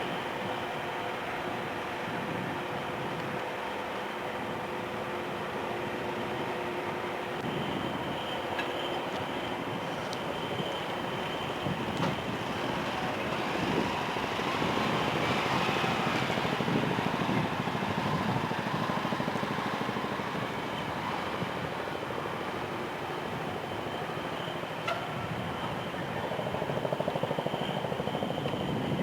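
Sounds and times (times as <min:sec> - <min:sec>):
train rumbling and rattling: 0:00.0 - 0:29.0.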